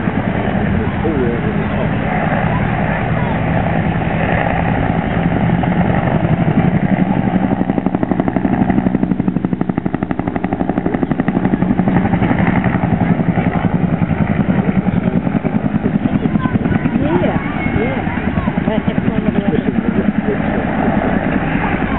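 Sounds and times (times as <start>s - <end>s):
aircraft engine droning: 0.0s - 21.9s.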